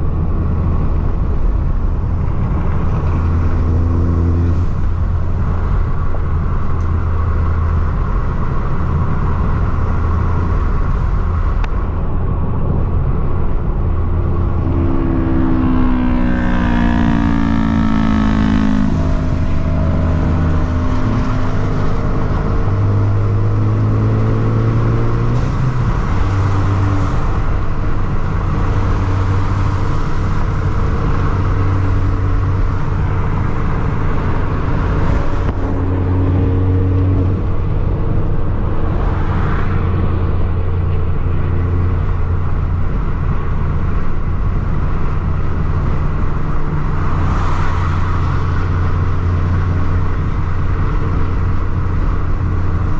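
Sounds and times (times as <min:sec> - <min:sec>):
car engine driving: 0:00.0 - 0:52.9.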